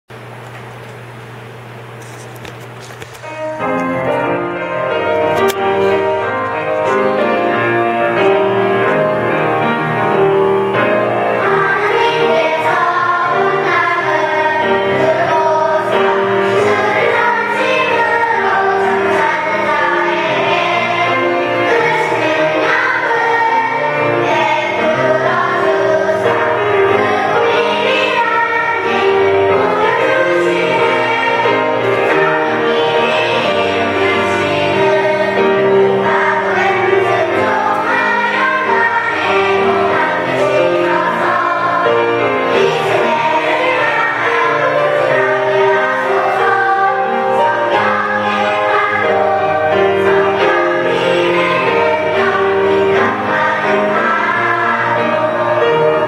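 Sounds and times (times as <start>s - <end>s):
instrumental accompaniment: 2.0s - 56.0s
church choir singing: 3.2s - 56.0s.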